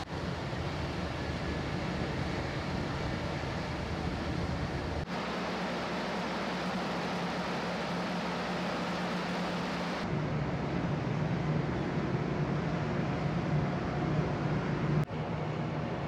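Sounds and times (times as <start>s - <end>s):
low hum of ship engines: 0.0s - 16.0s.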